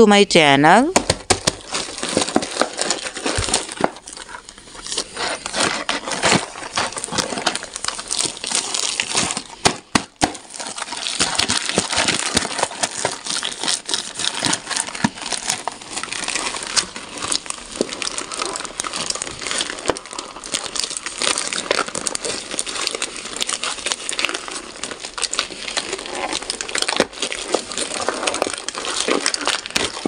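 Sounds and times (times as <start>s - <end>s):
wrappers crinkling: 0.7s - 30.0s.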